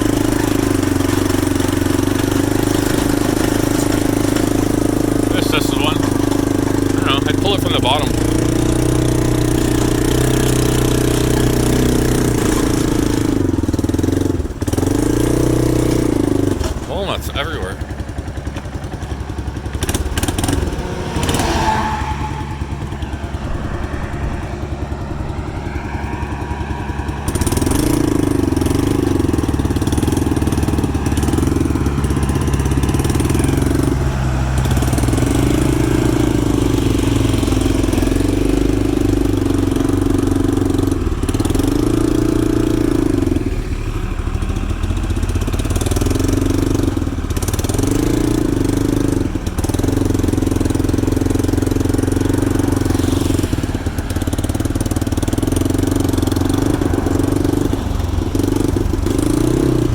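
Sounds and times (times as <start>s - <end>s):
backhoe engine running: 0.0s - 59.9s.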